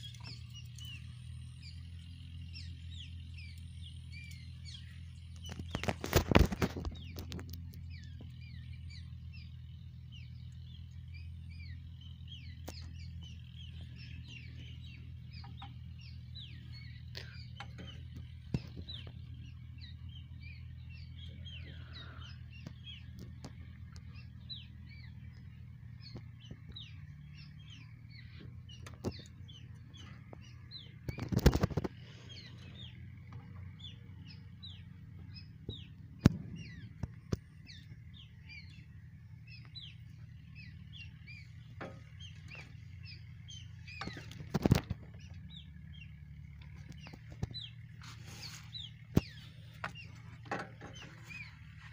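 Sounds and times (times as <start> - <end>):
birds chirping: 0.0 - 51.9
steady low hum: 0.0 - 51.9.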